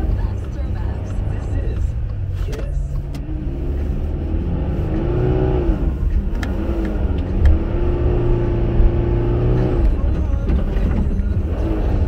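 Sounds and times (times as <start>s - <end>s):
car engine rumble from cabin: 0.0s - 12.0s.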